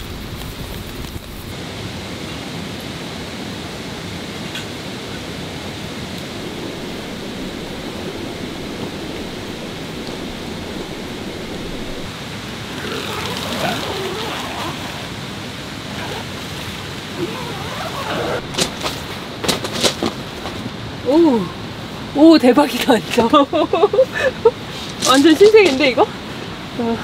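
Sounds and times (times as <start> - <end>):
steady rushing noise: 0.0 - 22.8.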